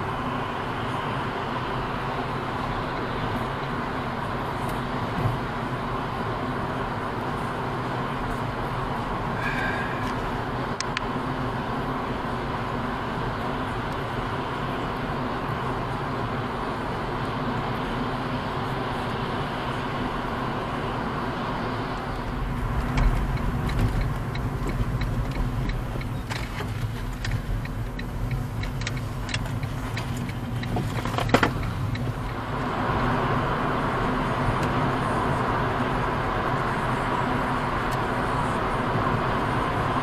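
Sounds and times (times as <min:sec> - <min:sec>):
tyre roar and engine rumble: 0:00.0 - 0:40.0.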